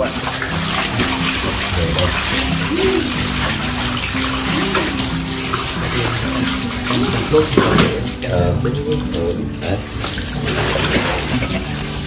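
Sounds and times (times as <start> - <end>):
music of held low notes: 0.0 - 12.0
water running and splashing: 0.0 - 12.0.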